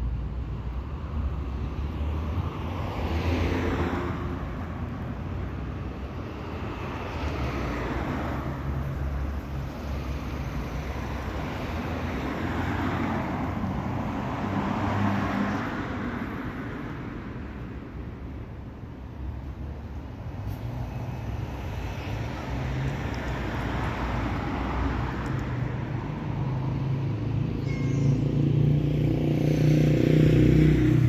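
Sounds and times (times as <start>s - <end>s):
cars passing: 0.0s - 31.0s
traffic engine rumble: 0.0s - 31.0s.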